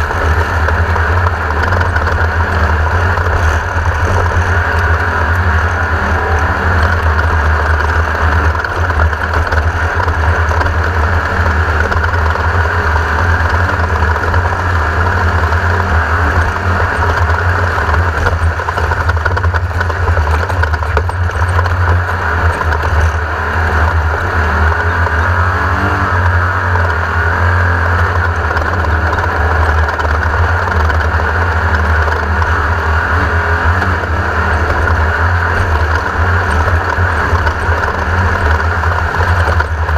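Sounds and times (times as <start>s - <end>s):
race car engine running under load: 0.0s - 39.9s
rattle: 0.0s - 39.9s.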